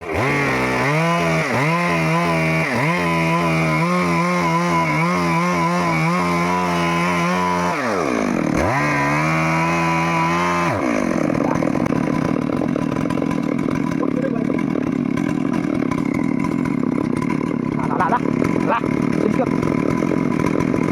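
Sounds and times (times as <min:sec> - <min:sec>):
chainsaw running at high revs: 0:00.0 - 0:20.9.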